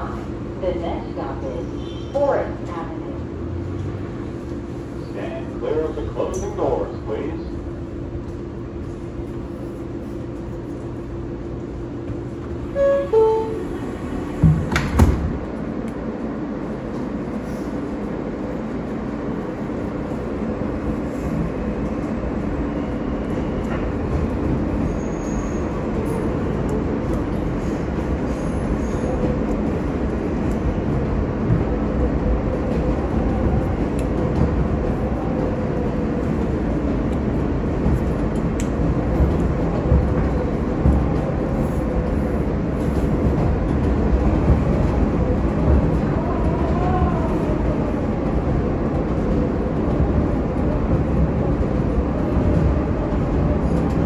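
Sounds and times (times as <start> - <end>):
subway train wheels rumbling: 0.0 - 54.0.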